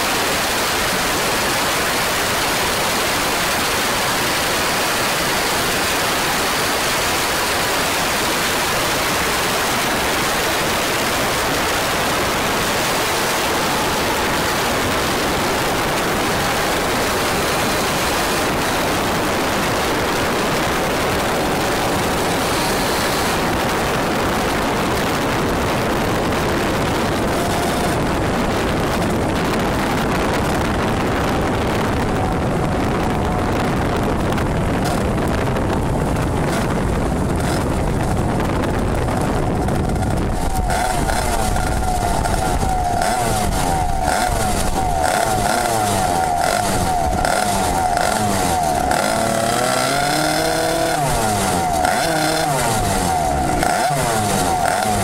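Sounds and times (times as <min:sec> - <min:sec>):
faint kart engine: 0:00.0 - 0:55.0
wind noise on microphone: 0:00.0 - 0:55.0.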